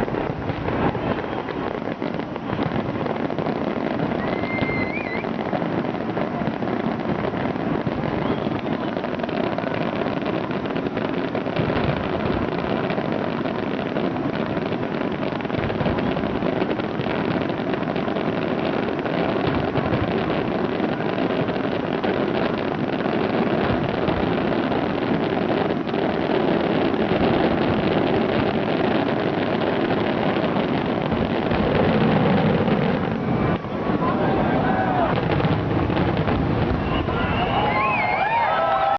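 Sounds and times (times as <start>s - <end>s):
rumbling outdoor background noise: 0.0s - 38.9s.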